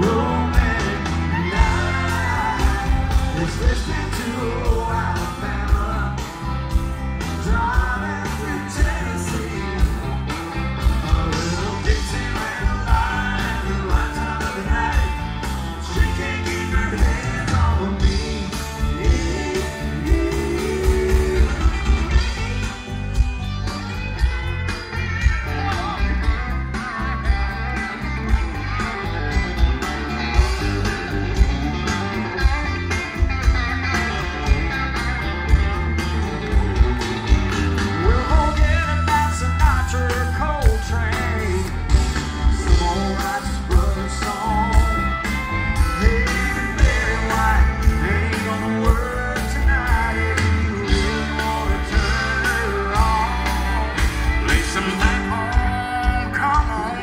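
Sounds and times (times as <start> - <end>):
person singing: 0.0 - 23.3, 33.9 - 57.0
electric guitar: 0.0 - 57.0
heavy bass: 0.0 - 57.0
live country-rock band: 0.0 - 57.0.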